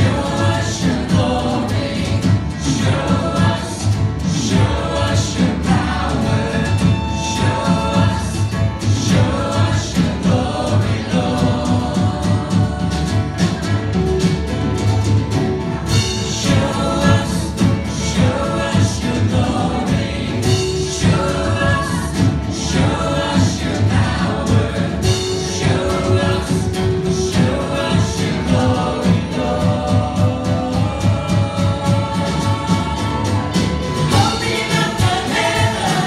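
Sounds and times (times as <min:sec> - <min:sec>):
live worship band: 0:00.0 - 0:36.0.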